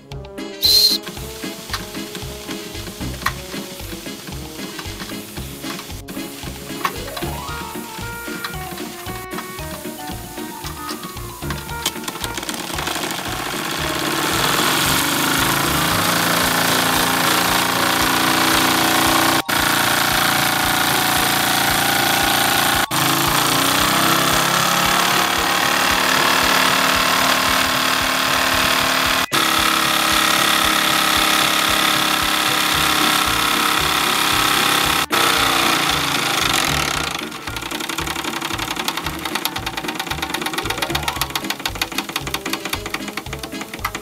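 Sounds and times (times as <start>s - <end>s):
toy steam engine chuffing: 0.5s - 44.0s
steam hissing: 0.6s - 44.0s.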